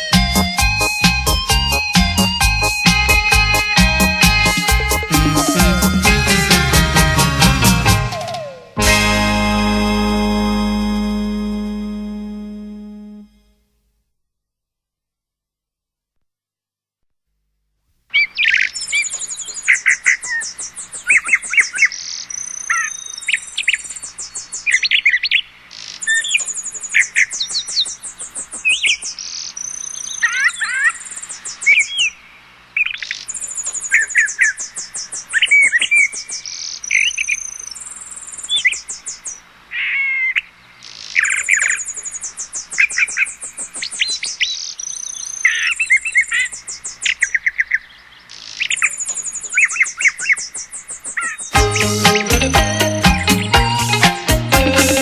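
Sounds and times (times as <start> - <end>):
birds chirping and trilling: 0.0 - 9.0, 18.1 - 55.0.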